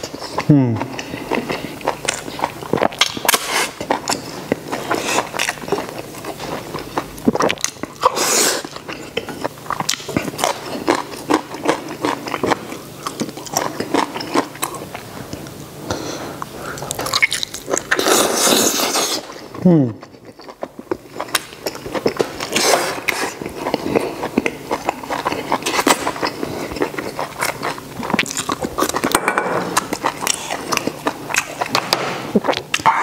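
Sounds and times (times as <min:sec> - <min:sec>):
person chewing wetly: 0:00.0 - 0:33.0.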